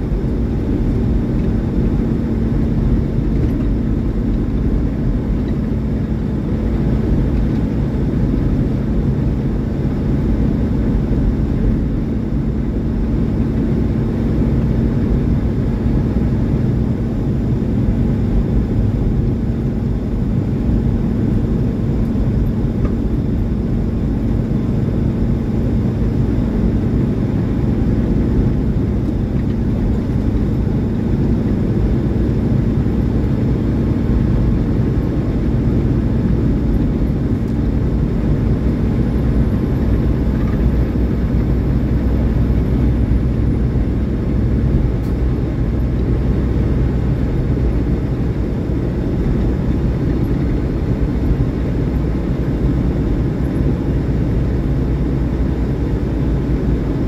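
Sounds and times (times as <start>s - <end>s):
road noise: 0.0s - 57.0s
truck diesel engine drone: 0.0s - 57.0s.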